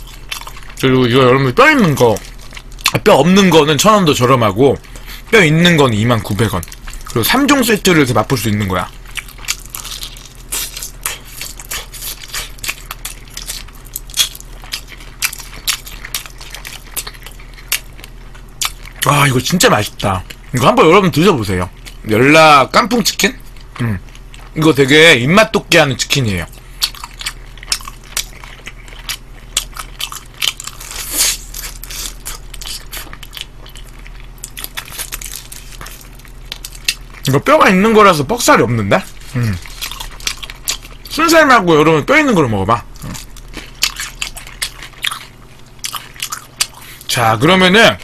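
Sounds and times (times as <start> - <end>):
crunching fried chicken: 0.0 - 48.0
faint low hum: 0.0 - 48.0.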